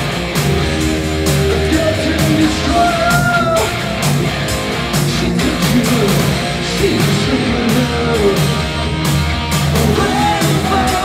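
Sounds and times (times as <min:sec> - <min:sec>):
bass guitar: 0:00.0 - 0:11.0
distorted electric guitars: 0:00.0 - 0:11.0
steady drum beat: 0:00.0 - 0:11.0.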